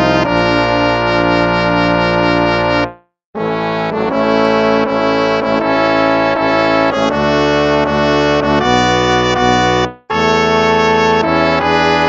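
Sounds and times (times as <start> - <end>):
brass playing slow hymn chords: 0.0 - 12.0.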